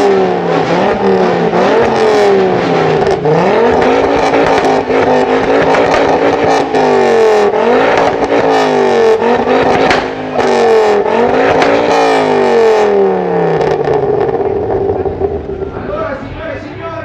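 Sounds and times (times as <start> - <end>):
sports car engine revving: 0.0 - 16.4.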